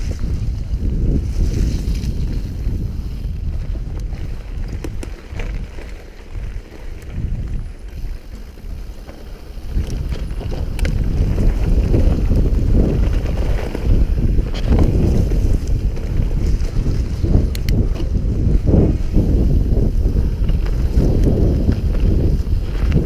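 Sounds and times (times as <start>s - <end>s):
bike tyres rumbling on dirt: 0.0s - 23.0s
wind buffeting microphone: 0.0s - 23.0s
bike rattling clicks: 1.2s - 23.0s.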